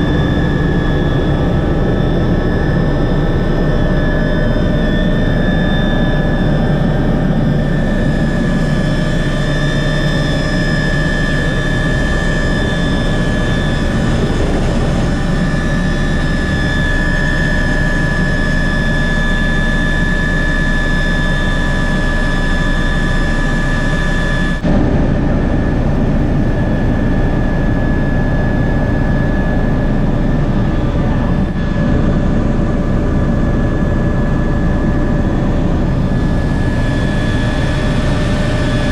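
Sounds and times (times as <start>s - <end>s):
helicopter engine whine: 0.0s - 38.9s
helicopter rotor noise: 0.0s - 38.9s.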